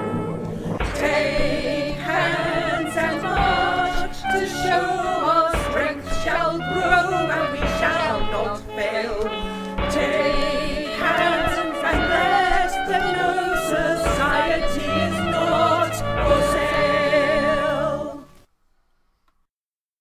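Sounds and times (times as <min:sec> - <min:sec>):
protest song with sung vocals: 0:00.0 - 0:18.5.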